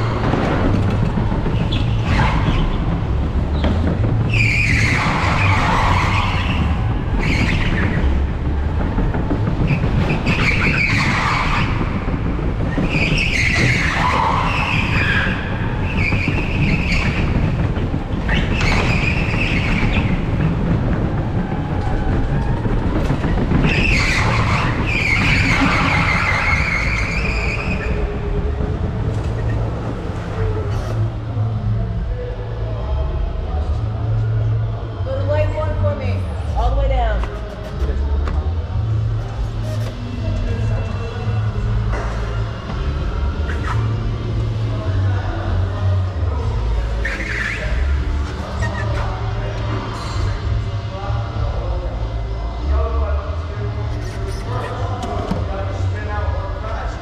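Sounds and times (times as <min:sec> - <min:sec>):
tyres squealing: 0:00.0 - 0:32.3, 0:37.2 - 0:50.7, 0:53.6 - 0:57.0
wind and road noise rumble: 0:00.0 - 0:57.0.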